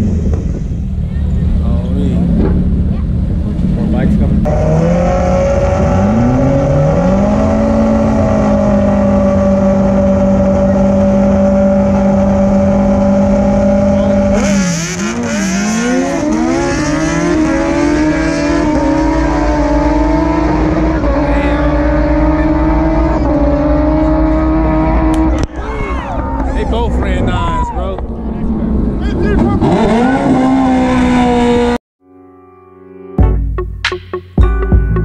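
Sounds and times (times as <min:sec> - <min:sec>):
motorcycle engines revving: 0:00.0 - 0:31.8.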